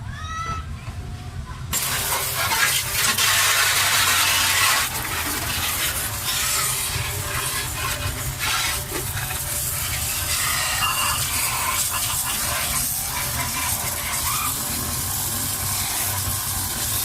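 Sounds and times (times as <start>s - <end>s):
loud spraying hiss: 1.7s - 17.0s.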